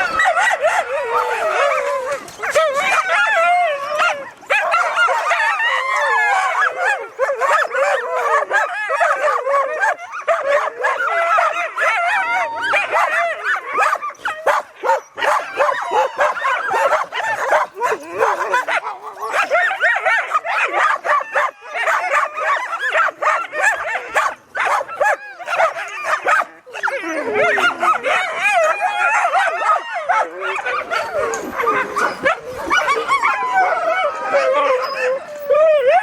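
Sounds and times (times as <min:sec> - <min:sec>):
dogs barking yipping and howling: 0:00.0 - 0:36.0.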